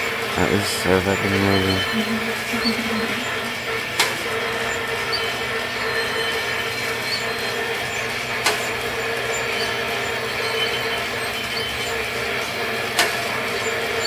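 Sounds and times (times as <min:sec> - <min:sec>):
mechanical whir with hum: 0:00.0 - 0:14.0.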